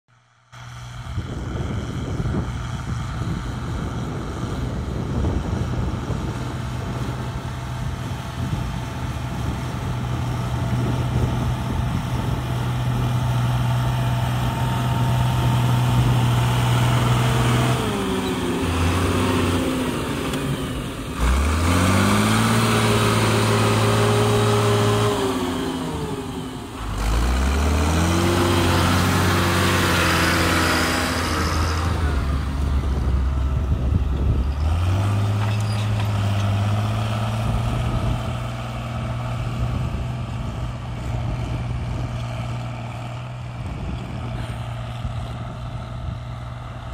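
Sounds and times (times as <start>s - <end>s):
tractor diesel engine under load: 0.2s - 46.9s.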